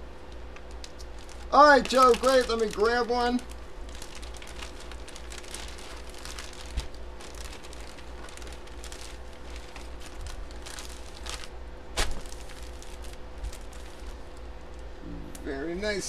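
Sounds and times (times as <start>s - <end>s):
plastic tearing crack: 0.3s - 14.8s
plastic mailer crinkling: 0.3s - 14.9s.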